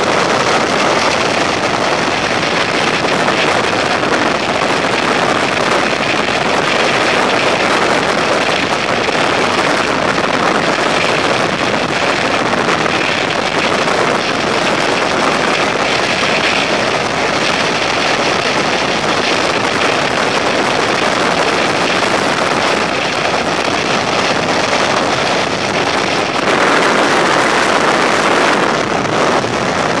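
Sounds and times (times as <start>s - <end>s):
freefall wind buffeting microphone: 0.0s - 30.0s.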